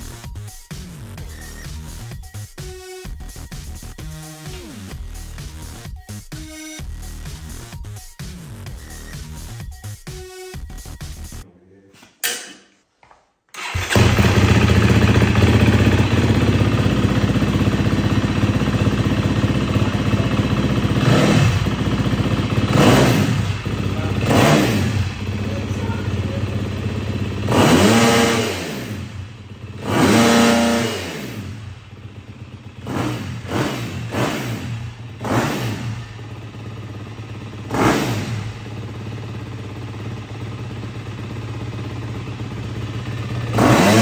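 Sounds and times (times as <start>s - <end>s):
motorcycle engine idling and revving: 0.0s - 11.4s, 13.6s - 44.0s.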